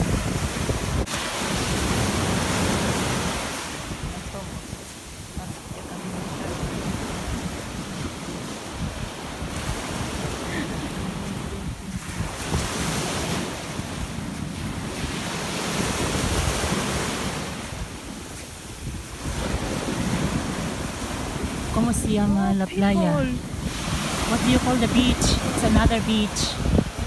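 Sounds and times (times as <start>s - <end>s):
waves washing up beach: 0.0s - 27.0s
wind rumbling on microphone: 0.0s - 27.0s.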